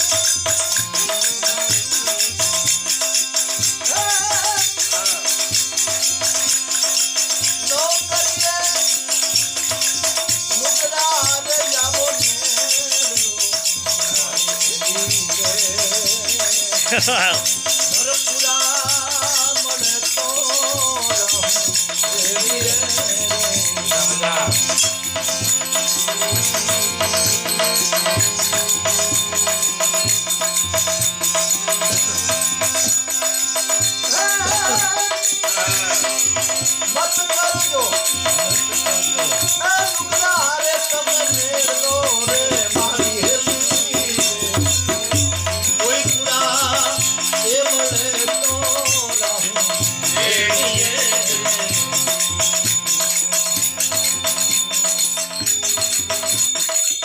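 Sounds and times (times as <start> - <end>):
held accompaniment notes: 0.0 - 56.6
man singing devotional song: 0.0 - 57.0
rhythmic percussion: 0.0 - 57.0.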